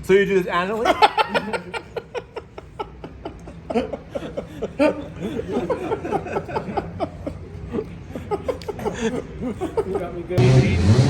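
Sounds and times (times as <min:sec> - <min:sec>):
people laughing: 0:00.7 - 0:10.6.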